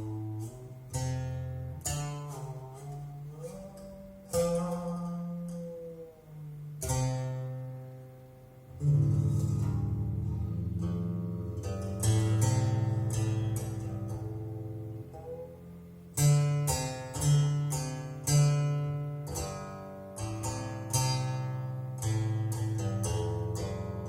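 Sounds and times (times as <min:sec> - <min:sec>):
plucked zither music: 0:00.0 - 0:24.0.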